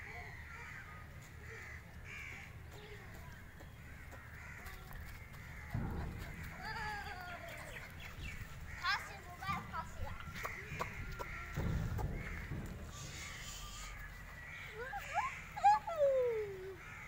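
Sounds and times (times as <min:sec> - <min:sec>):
crows cawing: 0:00.0 - 0:02.9, 0:03.6 - 0:07.8, 0:08.6 - 0:15.6, 0:16.7 - 0:17.0.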